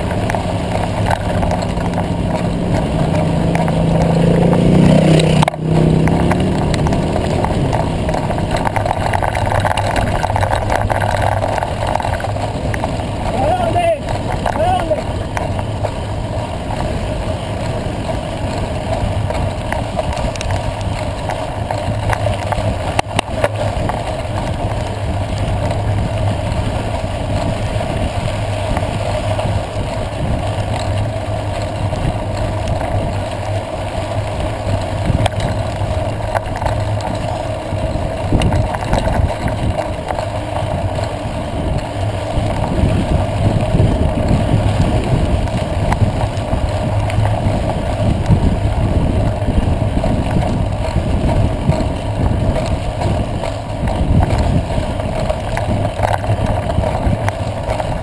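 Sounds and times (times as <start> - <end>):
bike clicks and knocks: 0.0 - 58.0
tyres rolling on dirt road: 0.0 - 58.0
wind on the microphone: 0.0 - 58.0.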